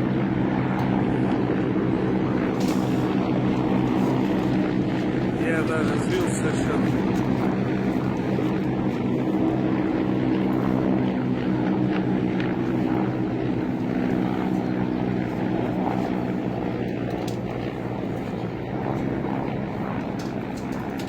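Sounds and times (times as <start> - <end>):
helicopter drone: 0.0 - 21.0.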